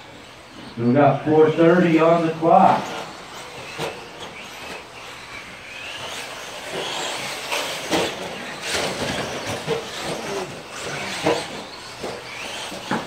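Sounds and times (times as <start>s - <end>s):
toy car motors whining: 0.0s - 13.0s.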